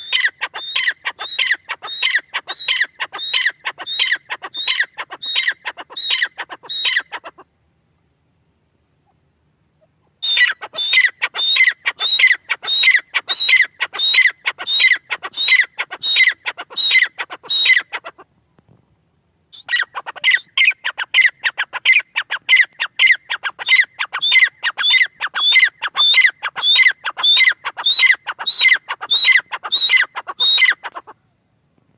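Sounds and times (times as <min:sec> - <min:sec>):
bird calling sharp notes: 0:00.0 - 0:07.4, 0:09.8 - 0:18.2, 0:19.5 - 0:31.2.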